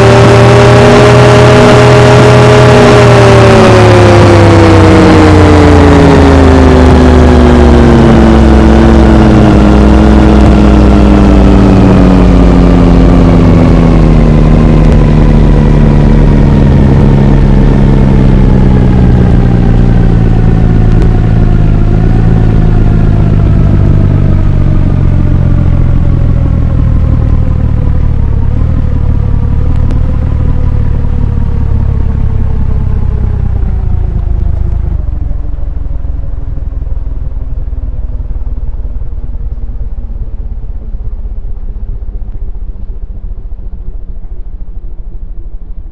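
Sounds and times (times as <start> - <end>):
low rumble: 0.0 - 45.9.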